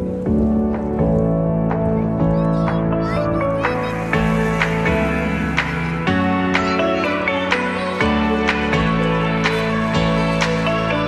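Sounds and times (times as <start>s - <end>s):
calm instrumental music with beat: 0.0s - 11.0s.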